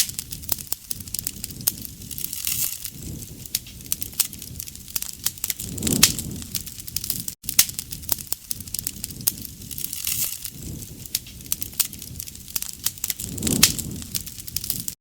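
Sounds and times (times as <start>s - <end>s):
campfire crackling and popping: 0.0s - 15.0s
rush of flame: 0.0s - 15.0s.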